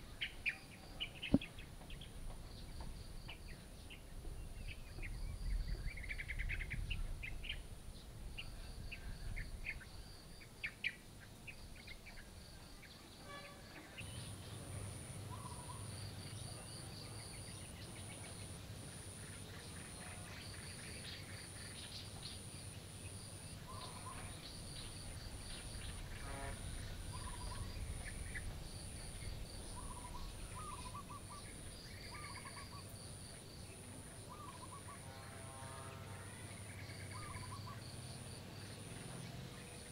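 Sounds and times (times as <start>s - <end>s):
small birds chirping: 0.0s - 13.1s, 13.9s - 35.0s, 36.5s - 39.9s.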